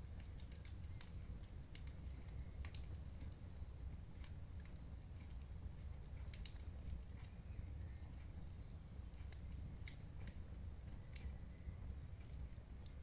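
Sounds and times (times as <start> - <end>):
fire crackling in a fireplace: 0.0 - 13.0.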